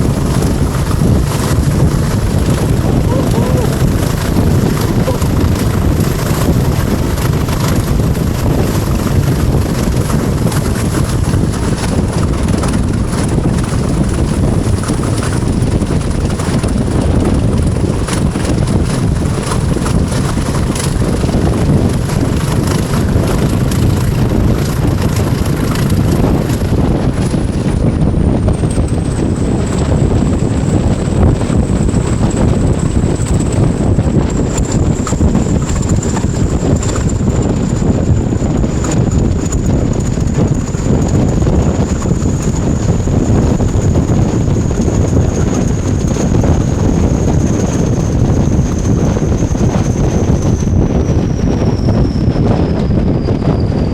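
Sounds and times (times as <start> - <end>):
diesel locomotive engine rumble: 0.0 - 53.9.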